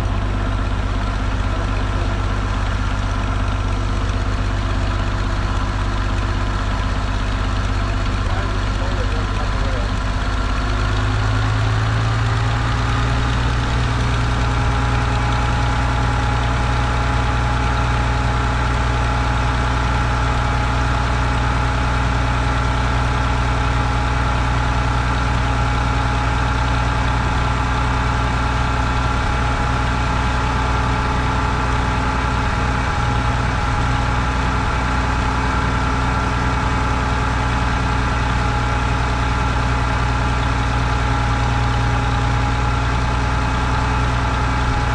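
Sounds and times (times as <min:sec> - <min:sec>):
tractor engine idling: 0:00.0 - 0:44.9.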